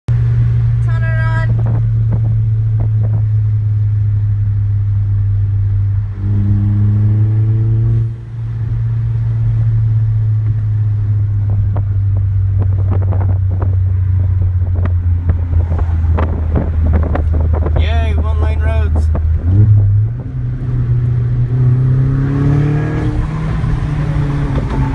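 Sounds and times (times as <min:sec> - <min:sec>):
car engine droning: 0:00.1 - 0:24.9.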